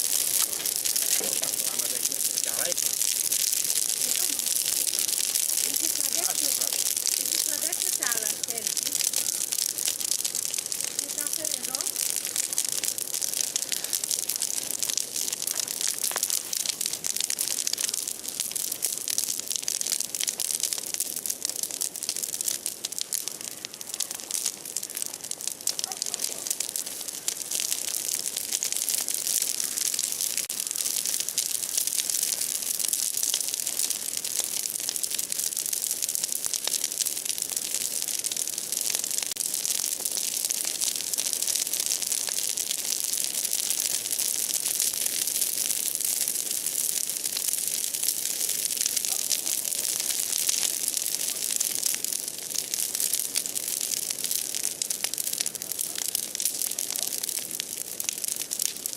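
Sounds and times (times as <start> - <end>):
bonfire crackling: 0.0 - 58.9.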